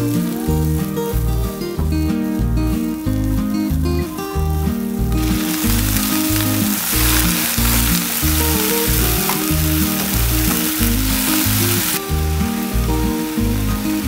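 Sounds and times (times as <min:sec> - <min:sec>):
background music with beat: 0:00.0 - 0:14.0
onion sizzling in hot oil: 0:00.0 - 0:14.0.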